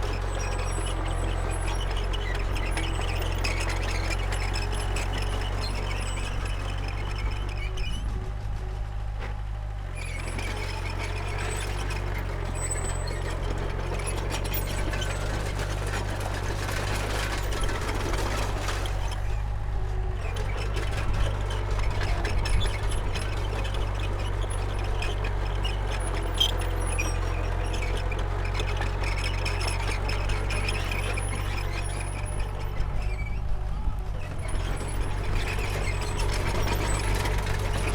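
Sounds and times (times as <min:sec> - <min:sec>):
bulldozer diesel engine running: 0:00.0 - 0:37.9.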